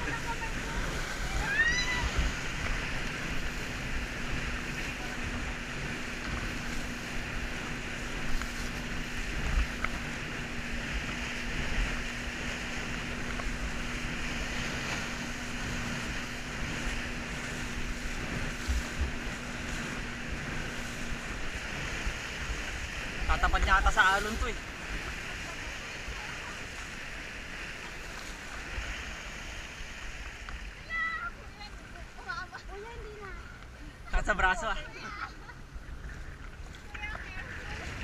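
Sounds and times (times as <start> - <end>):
wind buffeting microphone: 0.0 - 33.8
boat engine drone: 0.0 - 38.0
water rushing: 0.0 - 38.0.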